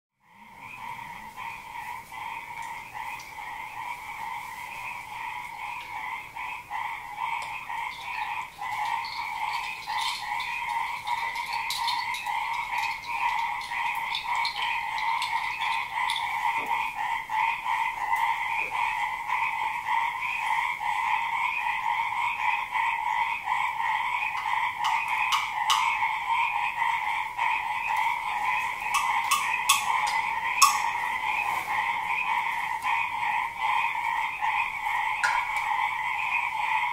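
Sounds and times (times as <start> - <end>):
frogs chorus calling: 0.2 - 36.9.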